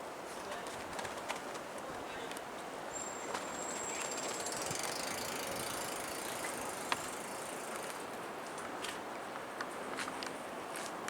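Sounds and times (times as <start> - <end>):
outdoor street noise: 0.0 - 11.0.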